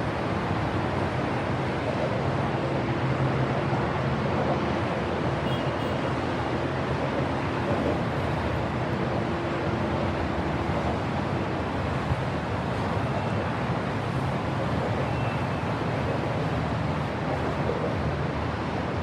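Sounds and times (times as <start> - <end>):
outdoor traffic noise: 0.0 - 19.0.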